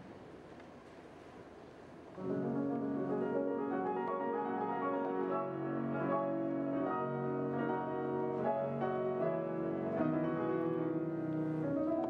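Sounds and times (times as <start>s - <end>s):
grand piano slow chords: 2.2s - 12.0s.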